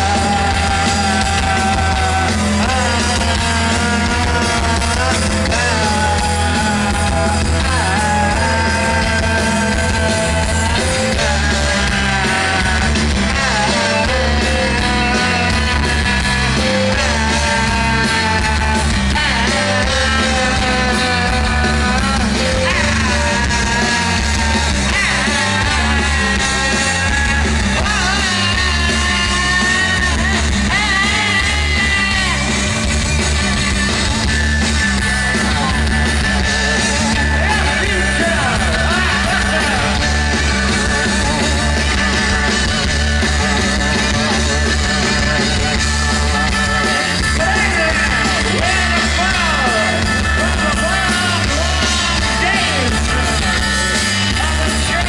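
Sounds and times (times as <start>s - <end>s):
man singing lead vocal: 0.0s - 32.9s, 34.1s - 55.0s
rock band playing live: 0.0s - 55.0s.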